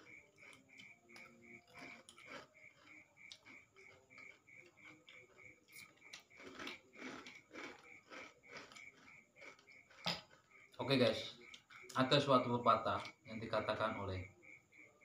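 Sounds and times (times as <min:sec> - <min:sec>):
faint chewing and biting: 0:00.0 - 0:12.1, 0:12.9 - 0:13.4.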